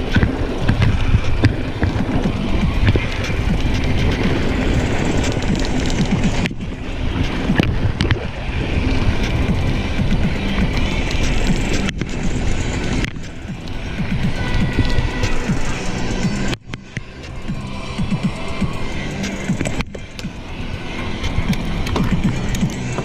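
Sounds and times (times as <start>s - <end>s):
bike tyres rumbling over rocks: 0.0s - 23.0s
wind on microphone: 0.0s - 23.0s.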